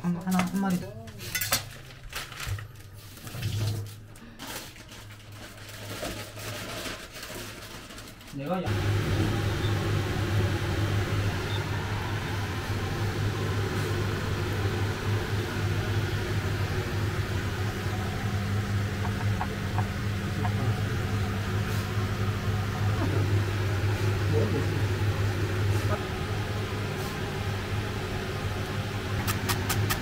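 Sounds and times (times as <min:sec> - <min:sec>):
kitchen appliance humming: 0:04.2 - 0:30.0.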